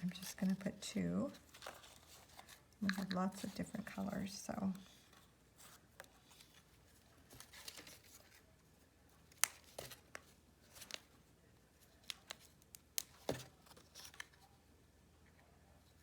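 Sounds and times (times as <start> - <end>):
paper rustling: 0.0 - 14.6.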